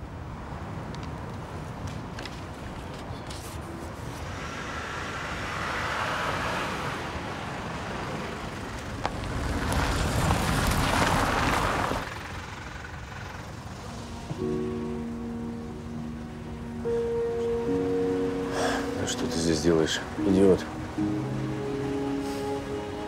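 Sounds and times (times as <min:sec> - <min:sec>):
road noise: 0:00.0 - 0:23.0
vehicles passing: 0:00.0 - 0:23.0.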